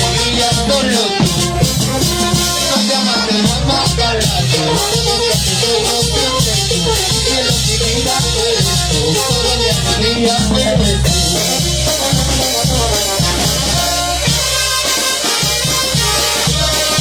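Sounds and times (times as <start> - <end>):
latin band instrumental: 0.0 - 17.0.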